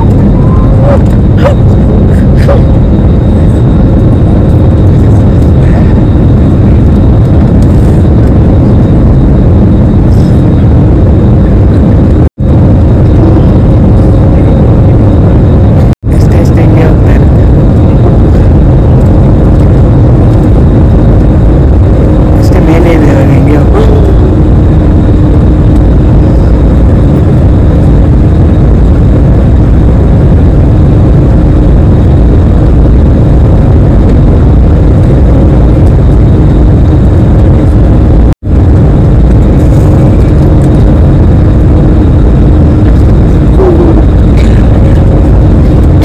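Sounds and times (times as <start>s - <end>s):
jet engines rumbling in cabin: 0.0s - 46.0s.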